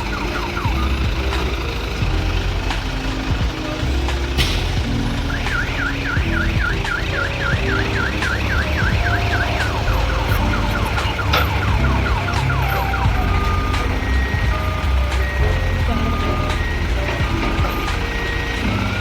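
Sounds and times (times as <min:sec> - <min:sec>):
diesel engine running: 0:00.0 - 0:19.0
reversing warning alarm: 0:00.0 - 0:19.0.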